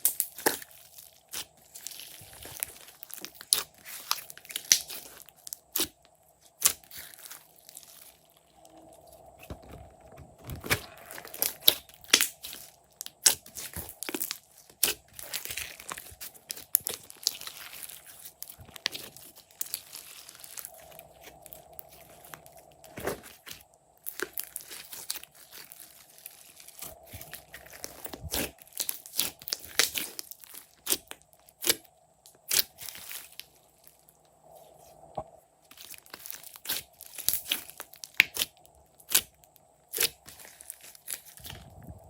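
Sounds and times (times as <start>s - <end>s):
slime popping and crackling: 0.0s - 8.6s, 10.6s - 33.5s, 35.7s - 41.7s
faint steady hum: 0.0s - 42.0s
slime squishing by hand: 0.0s - 42.0s.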